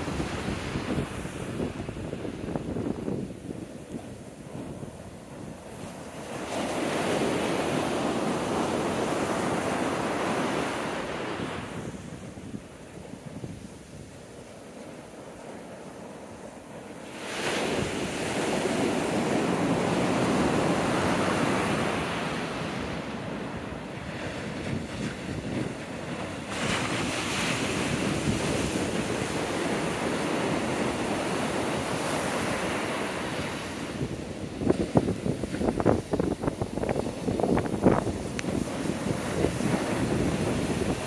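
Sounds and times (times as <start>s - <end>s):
heavy ocean surf breaking: 0.0s - 41.0s.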